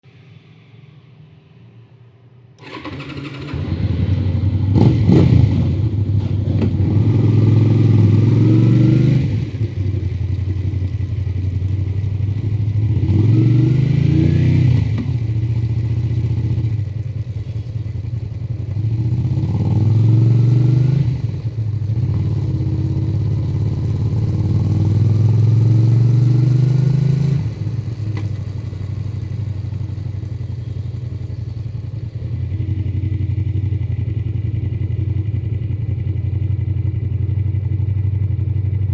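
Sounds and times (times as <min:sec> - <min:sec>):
motorcycle engine accelerating: 0:02.6 - 0:38.9.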